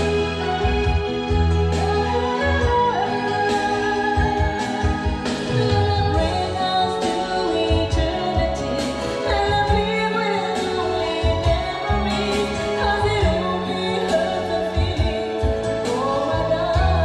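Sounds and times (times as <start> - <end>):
backing track with bass and beat: 0.0 - 17.0
person singing karaoke: 0.0 - 17.0.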